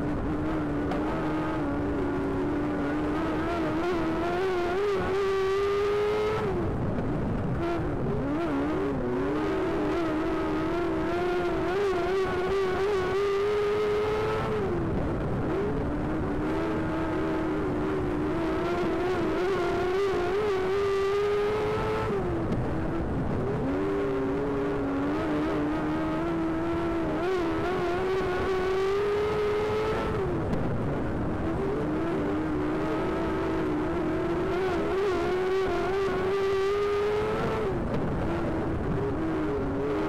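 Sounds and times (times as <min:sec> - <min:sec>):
race car engine: 0:00.0 - 0:40.0.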